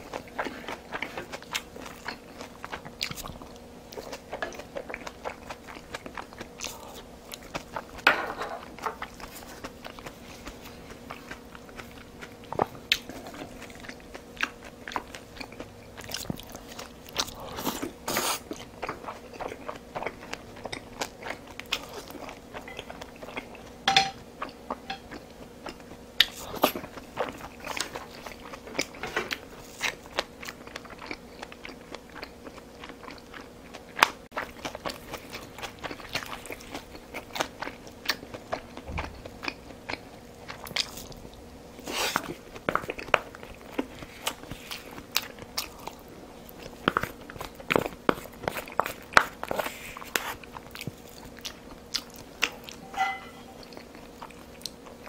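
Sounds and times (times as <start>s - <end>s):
chewing and wet mouth sounds: 0.0s - 8.0s, 8.6s - 55.0s.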